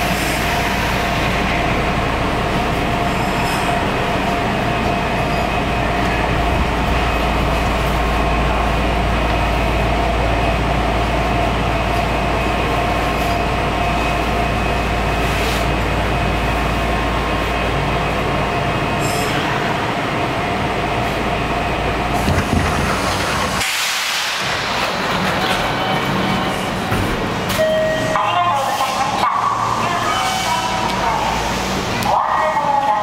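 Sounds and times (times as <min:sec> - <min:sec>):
train motors and wheels rumbling: 0:00.0 - 0:33.0.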